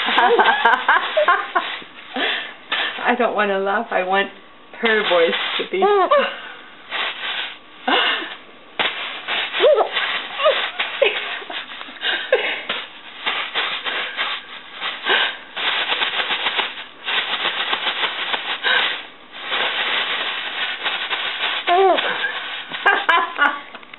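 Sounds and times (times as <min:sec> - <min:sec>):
plastic bag crinkling: 0:00.0 - 0:03.0, 0:04.8 - 0:23.5.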